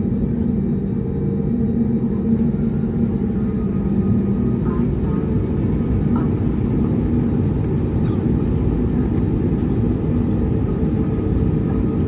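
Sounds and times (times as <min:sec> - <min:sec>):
airplane engines rumbling in cabin: 0:00.0 - 0:12.0.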